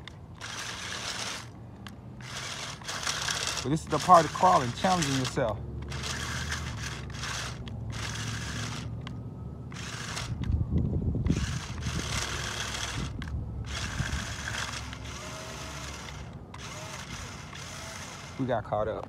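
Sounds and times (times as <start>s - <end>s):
small electric motor whining: 0.0s - 18.7s.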